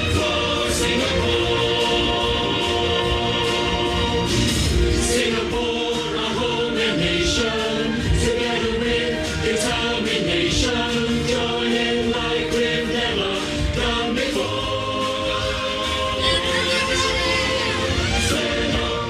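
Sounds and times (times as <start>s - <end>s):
massed choir singing: 0.0s - 19.0s
musical accompaniment: 0.0s - 19.0s.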